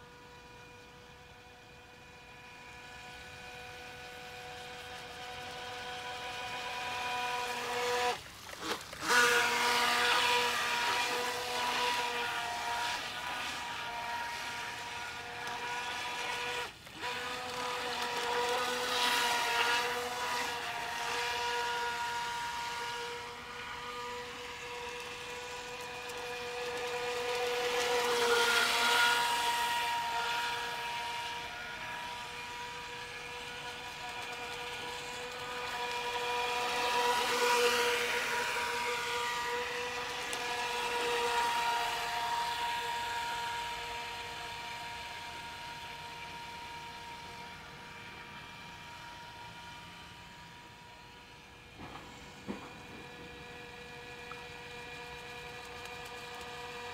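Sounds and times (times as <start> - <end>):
electric motor whine: 0.0 - 56.9.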